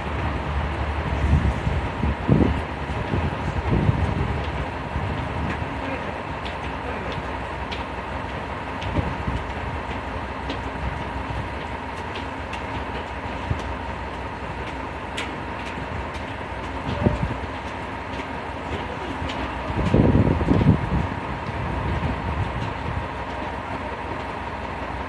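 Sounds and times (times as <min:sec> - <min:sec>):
diesel railcar engine idling: 0:00.0 - 0:25.0.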